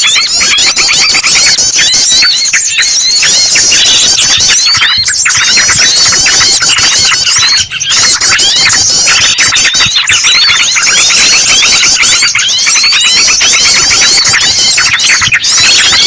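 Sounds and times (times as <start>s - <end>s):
bird squealing in distress: 0.0s - 16.0s
chorus of chirping birds: 0.0s - 16.0s.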